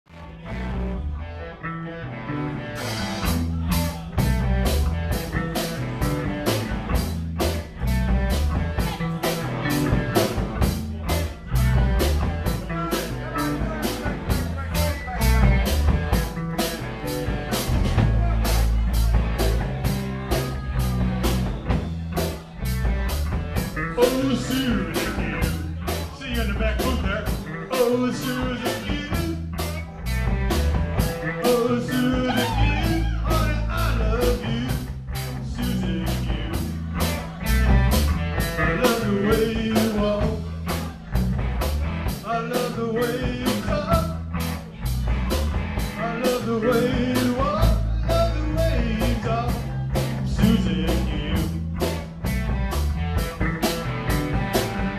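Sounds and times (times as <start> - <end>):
live rock band playing: 0.1 - 54.9.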